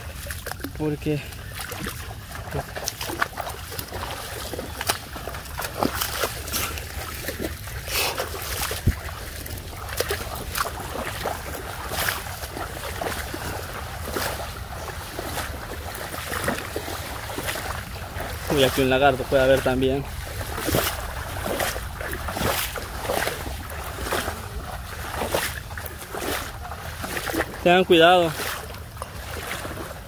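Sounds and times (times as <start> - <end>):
footsteps splashing through water and mud: 0.0 - 30.0.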